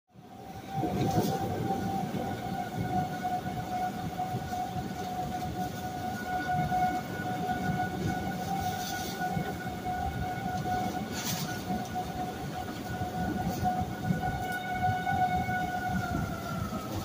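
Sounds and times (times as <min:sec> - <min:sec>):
warning siren high tone: 0:00.3 - 0:17.0.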